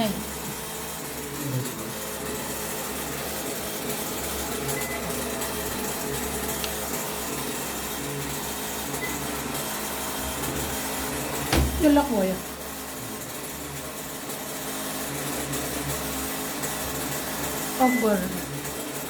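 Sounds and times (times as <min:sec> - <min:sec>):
washing machine whirring: 0:00.0 - 0:19.0.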